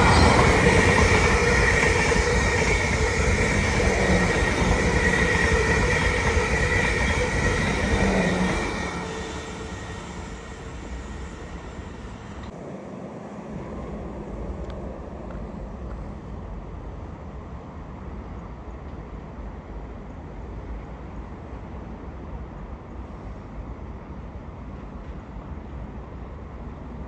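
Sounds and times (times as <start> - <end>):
passing train: 0.0 - 27.0.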